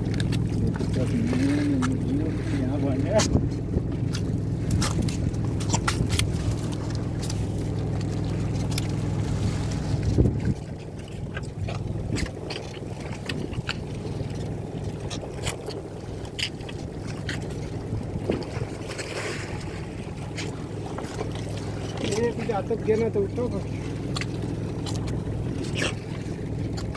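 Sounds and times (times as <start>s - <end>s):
boat engine running: 0.0s - 26.9s.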